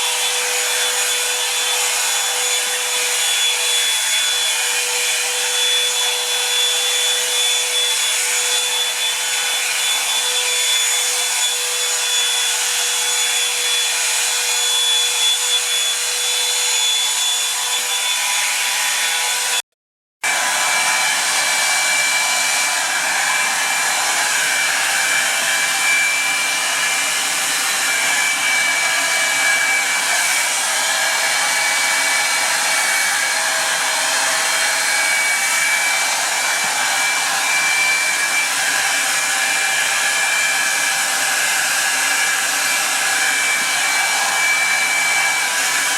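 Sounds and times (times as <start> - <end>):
hot-air brush fan whining: 0.0 - 19.6, 20.2 - 45.9.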